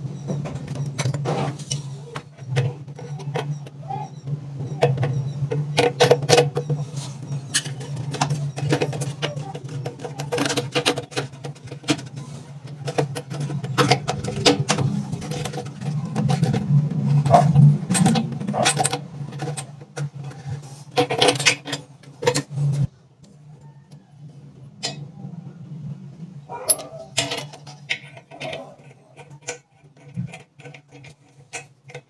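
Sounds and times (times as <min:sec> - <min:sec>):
steady low hum: 0:00.0 - 0:31.4.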